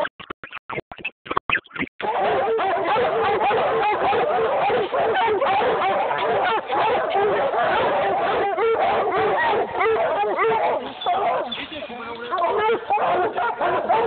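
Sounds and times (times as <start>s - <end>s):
hounds barking and bawling: 2.0s - 14.0s.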